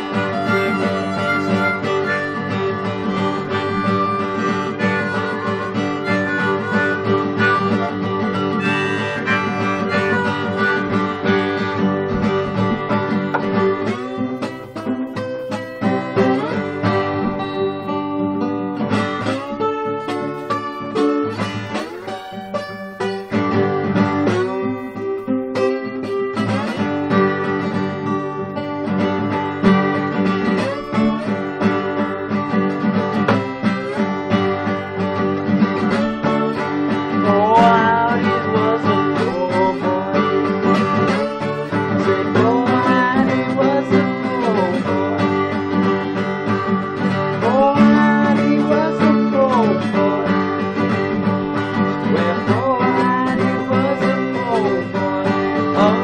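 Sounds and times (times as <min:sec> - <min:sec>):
acoustic guitar playing blues: 0:00.0 - 0:56.0.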